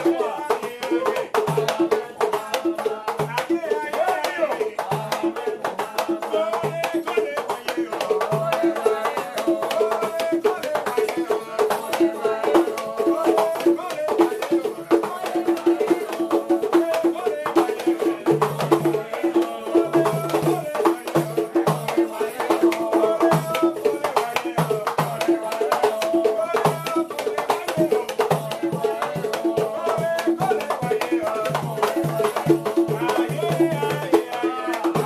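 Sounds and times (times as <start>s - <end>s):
hand drum ensemble rhythm: 0.0s - 35.0s
voices singing: 0.0s - 35.0s.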